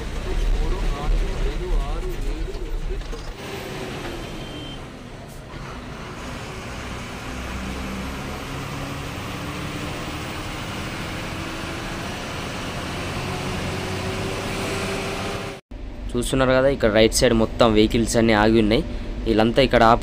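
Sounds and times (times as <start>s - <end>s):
lorry diesel engine running: 0.0s - 20.0s
road noise: 0.0s - 20.0s.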